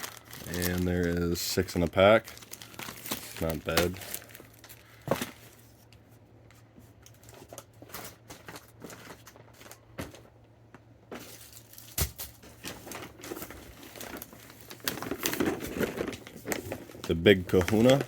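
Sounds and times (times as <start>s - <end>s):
packaging crinkling and rustling: 0.0s - 6.1s, 6.9s - 18.0s.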